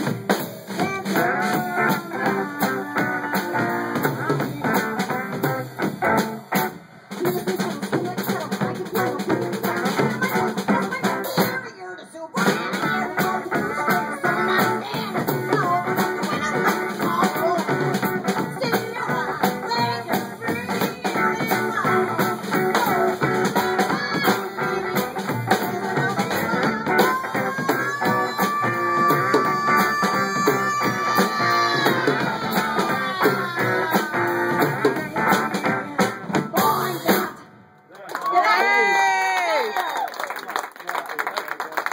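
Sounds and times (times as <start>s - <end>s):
woman singing: 0.0s - 5.5s, 7.1s - 37.5s
swing band playing: 0.0s - 37.8s.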